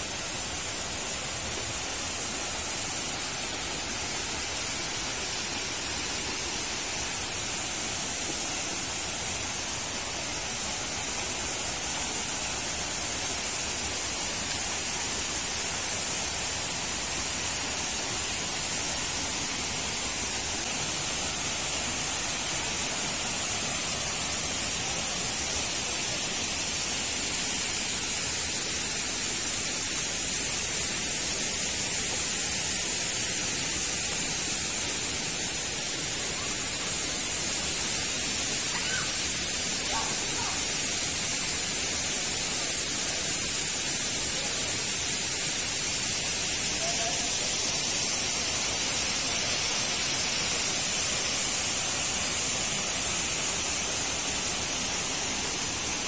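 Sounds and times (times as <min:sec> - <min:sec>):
waterfall hissing: 0:00.0 - 0:56.0.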